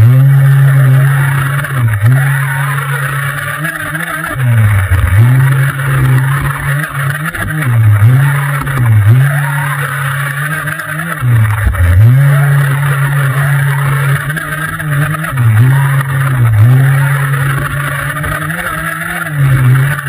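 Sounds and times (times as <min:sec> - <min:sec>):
rc car motor running: 0:00.0 - 0:20.0.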